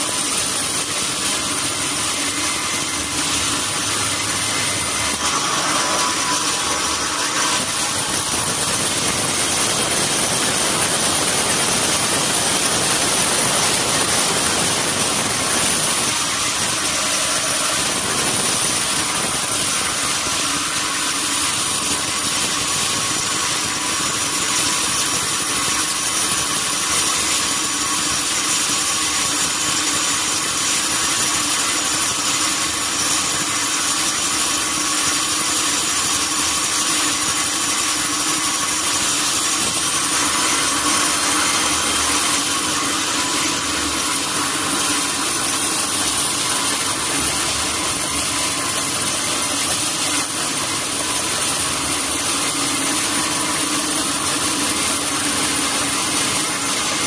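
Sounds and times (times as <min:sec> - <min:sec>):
sawmill saw running: 0:00.0 - 0:57.0.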